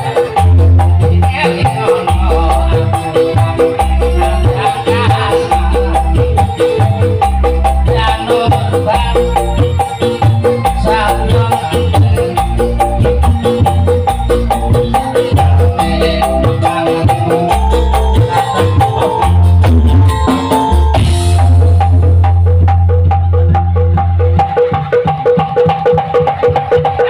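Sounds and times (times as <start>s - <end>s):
deep bass: 0.0s - 25.1s
hand drums beating: 0.0s - 27.0s
keyboard melody: 0.0s - 27.0s.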